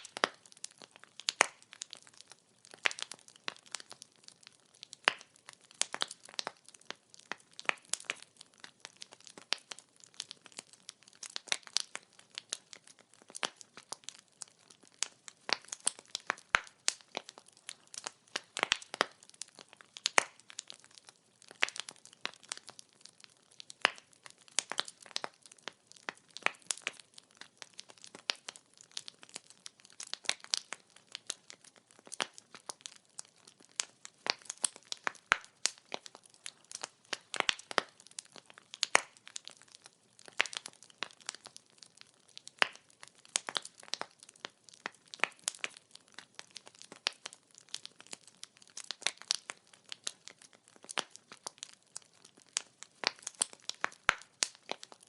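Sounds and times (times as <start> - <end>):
faint steady hiss: 0.0 - 55.0
wood fire crackling and popping: 0.0 - 55.0.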